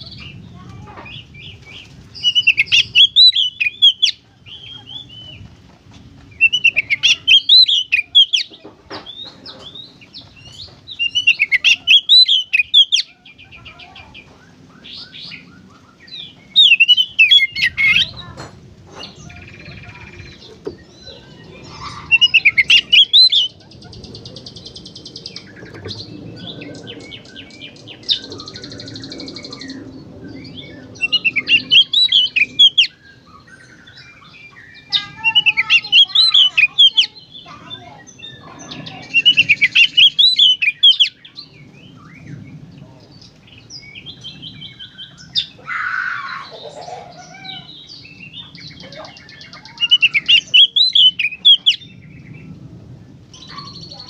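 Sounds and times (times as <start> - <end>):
bird singing warbling phrases: 0.0 - 5.6, 6.2 - 54.0.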